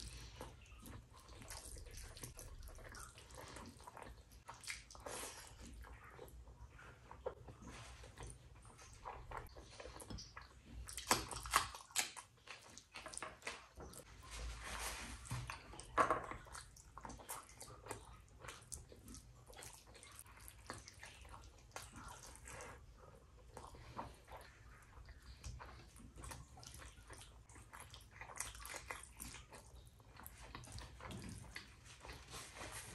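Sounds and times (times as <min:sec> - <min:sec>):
chewing and lip-smacking: 0:00.0 - 0:14.1, 0:15.2 - 0:32.9.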